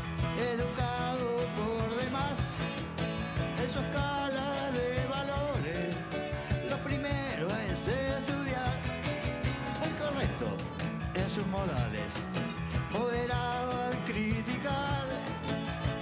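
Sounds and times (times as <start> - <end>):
bending melody line: 0.0 - 16.0
electric guitar: 0.0 - 16.0
steady drum beat: 0.0 - 16.0.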